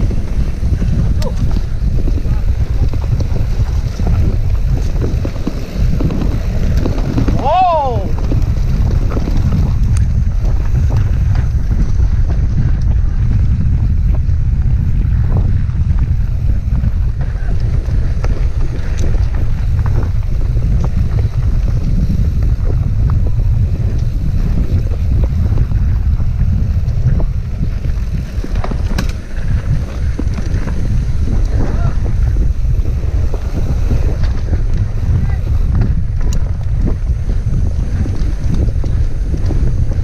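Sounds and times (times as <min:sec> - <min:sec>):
bike rattling over rough ground: 0:00.0 - 0:40.0
wind buffeting microphone: 0:00.0 - 0:40.0.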